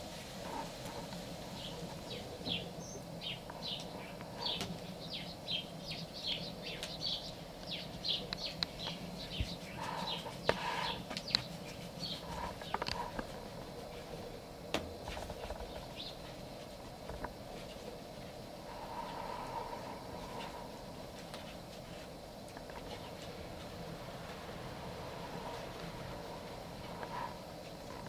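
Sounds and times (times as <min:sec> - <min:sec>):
small birds chirping: 0:00.4 - 0:28.0.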